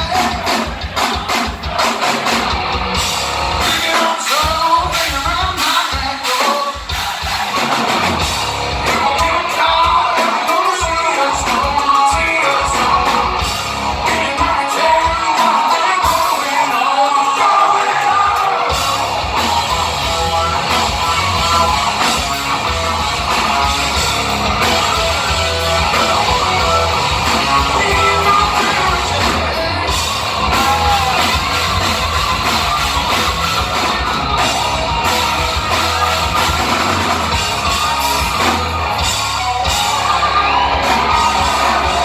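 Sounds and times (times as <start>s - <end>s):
bass: 0.0s - 42.0s
drum kit: 0.0s - 42.0s.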